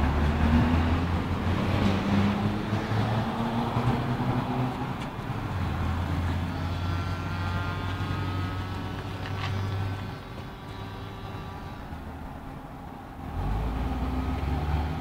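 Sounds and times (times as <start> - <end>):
car engine humming: 0.0 - 15.0
road traffic: 0.0 - 15.0.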